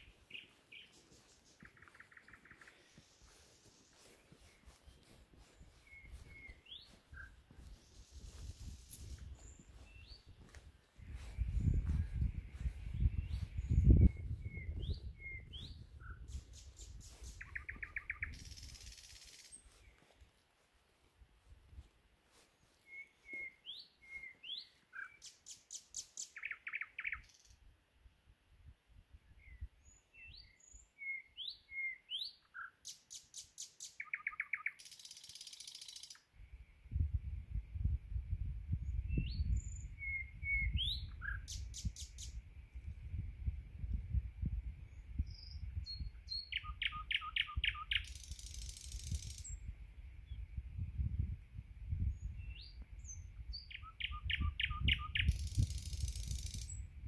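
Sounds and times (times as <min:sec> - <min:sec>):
nightingale singing: 0:00.0 - 0:20.2, 0:22.6 - 0:27.6, 0:29.4 - 0:36.3, 0:38.8 - 0:42.5, 0:44.8 - 0:50.4, 0:52.0 - 0:57.0.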